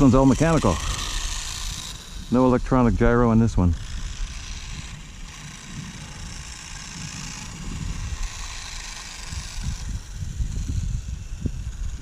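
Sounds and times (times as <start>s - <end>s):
electric motor high whir: 0.0s - 12.0s
wind rumble on microphone: 0.0s - 12.0s.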